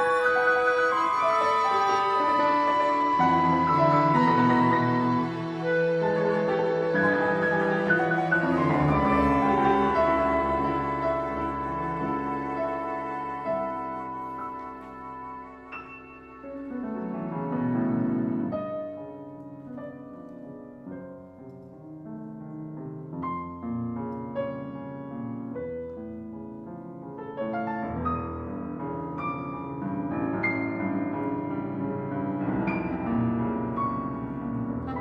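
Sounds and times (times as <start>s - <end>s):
piano playing: 0.0s - 35.0s.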